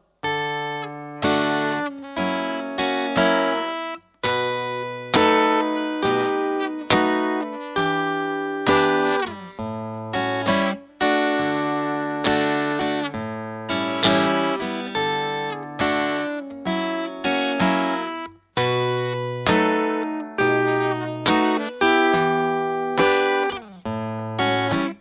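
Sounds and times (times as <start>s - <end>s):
acoustic guitar strumming and plucking: 0.2s - 25.0s.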